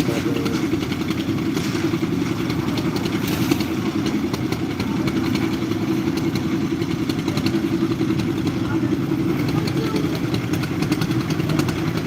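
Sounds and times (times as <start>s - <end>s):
construction machinery engine drone: 0.0s - 12.0s.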